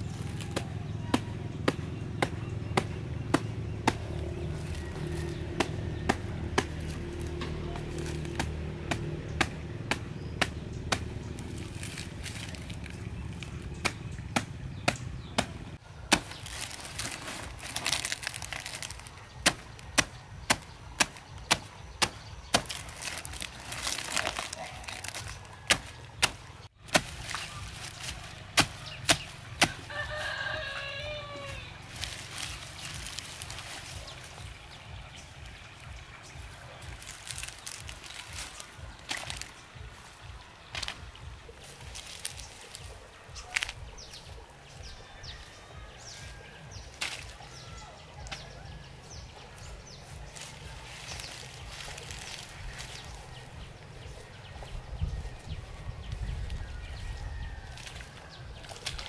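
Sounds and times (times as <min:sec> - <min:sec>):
knife chopping plant stems: 0:00.0 - 0:53.5, 0:57.4 - 0:59.0
leaves rustling: 0:00.0 - 0:59.0.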